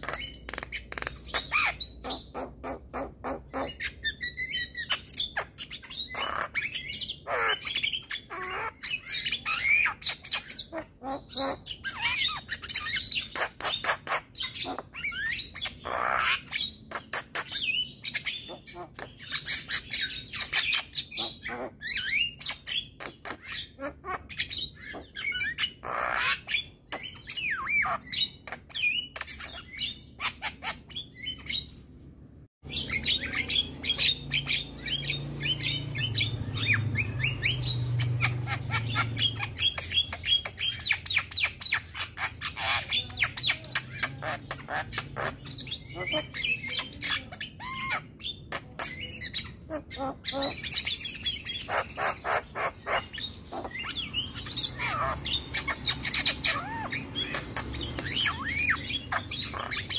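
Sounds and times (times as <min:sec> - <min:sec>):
bird singing calls and whistles: 0:00.0 - 0:31.7, 0:32.6 - 0:59.9.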